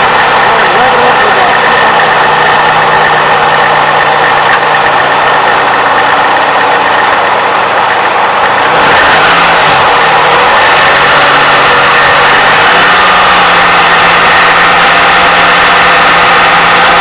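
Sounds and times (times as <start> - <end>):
car engine idling: 0.0 - 17.0
light engine clacking: 0.0 - 17.0.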